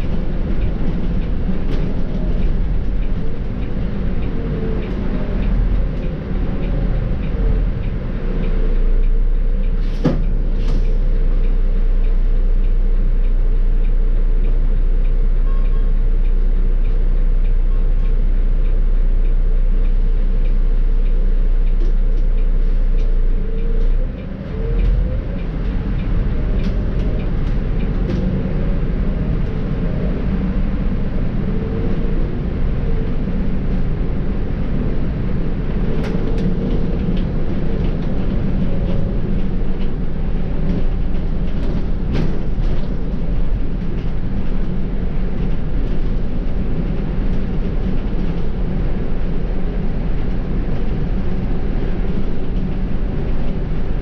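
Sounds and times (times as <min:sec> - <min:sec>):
bus diesel engine rumbling: 0:00.0 - 0:54.0
road noise: 0:00.0 - 0:54.0.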